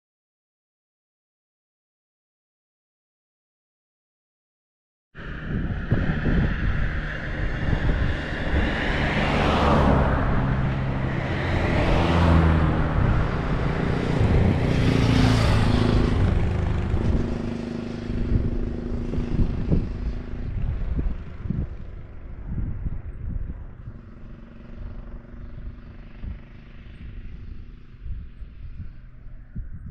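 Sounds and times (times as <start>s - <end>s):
tractors driving past: 5.2s - 29.6s.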